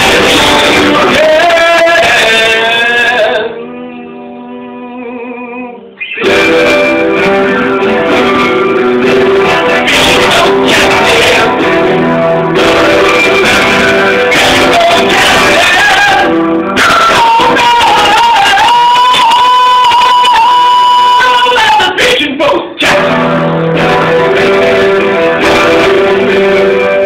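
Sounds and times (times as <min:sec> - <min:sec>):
electric guitar strummed chords: 0:00.0 - 0:04.8, 0:05.8 - 0:27.0
man singing: 0:00.0 - 0:27.0.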